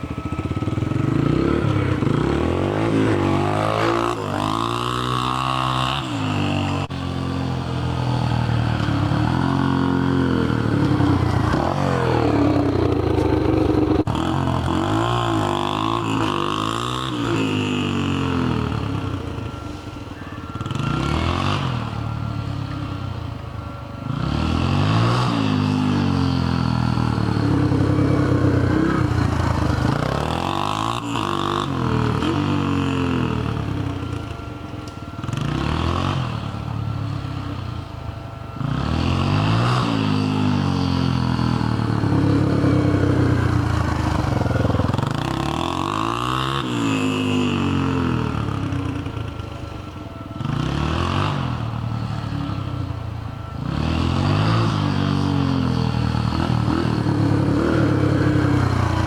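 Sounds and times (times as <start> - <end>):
motorcycle engine ridden hard: 0.0 - 59.0.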